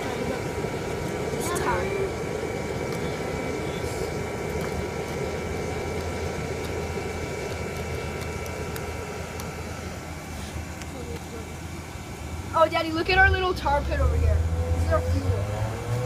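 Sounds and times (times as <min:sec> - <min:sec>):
thin steady whine: 0:00.0 - 0:16.0.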